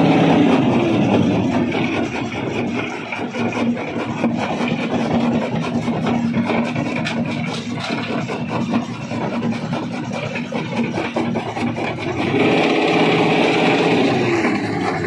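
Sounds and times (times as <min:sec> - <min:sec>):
higher engine note: 0:00.0 - 0:15.0
stone crusher engine drone: 0:00.0 - 0:15.0.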